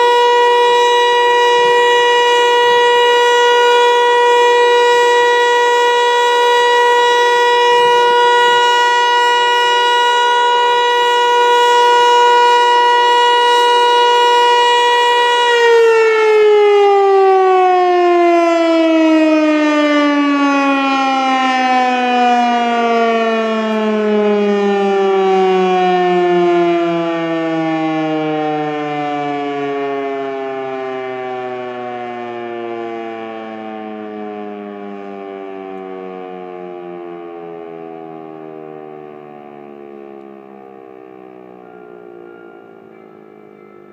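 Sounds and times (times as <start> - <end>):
outdoor warning siren: 0.0 - 43.9.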